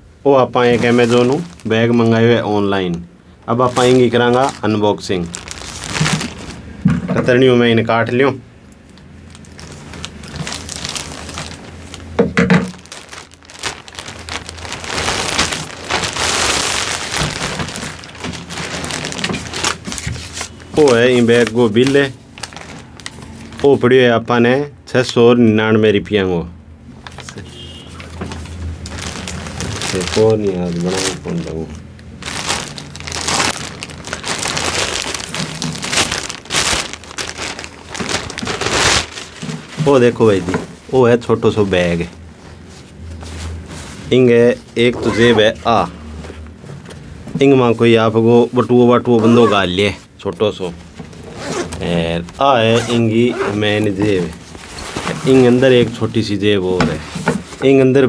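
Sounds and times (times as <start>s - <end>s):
plastic crinkling and rustling: 0.5s - 8.2s, 8.8s - 23.9s, 27.0s - 58.0s.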